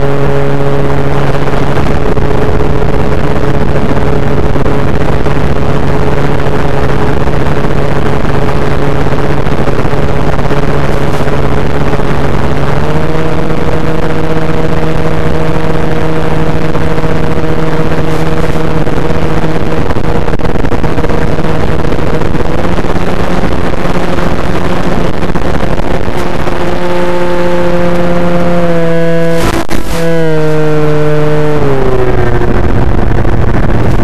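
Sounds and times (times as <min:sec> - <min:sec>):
wind rush: 0:00.0 - 0:28.5, 0:29.2 - 0:34.0
electric motor and propeller droning: 0:00.0 - 0:34.0.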